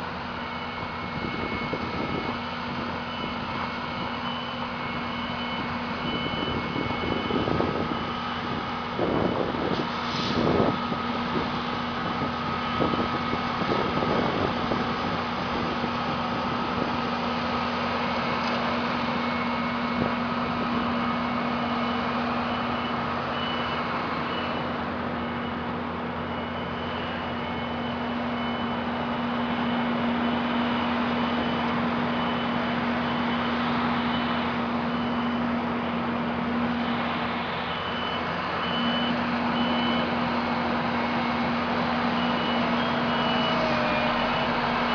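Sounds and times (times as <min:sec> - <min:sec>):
heavy vehicle engine running: 0:00.0 - 0:44.9
reversing alarm beeping: 0:00.0 - 0:44.9.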